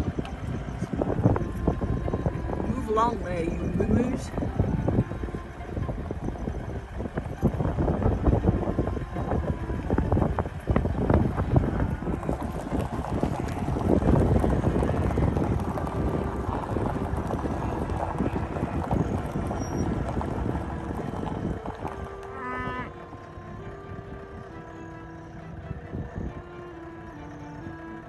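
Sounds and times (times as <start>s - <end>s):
vehicle driving over rough ground: 0.0s - 28.0s
wind over microphone: 0.0s - 28.0s.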